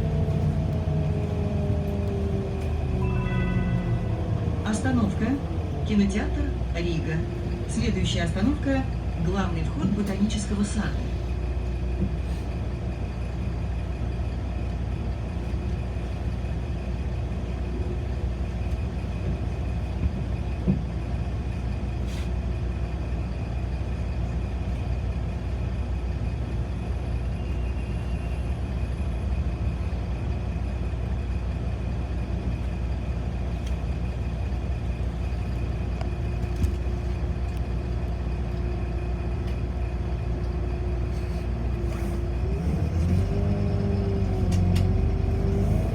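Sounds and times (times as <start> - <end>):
bus engine and road rumble: 0.0 - 45.9
constant hum: 0.0 - 45.9.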